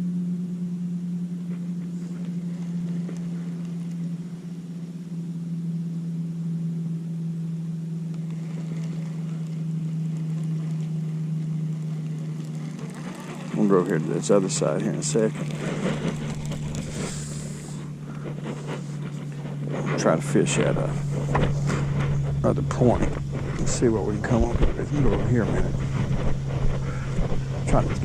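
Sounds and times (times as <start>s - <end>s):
boat motor droning: 0.0s - 28.0s.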